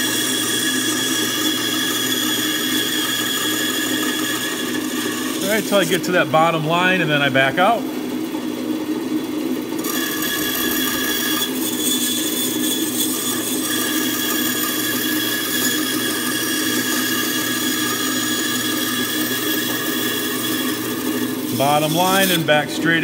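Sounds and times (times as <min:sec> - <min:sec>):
bandsaw cutting wood: 0:00.0 - 0:07.8, 0:09.6 - 0:23.0.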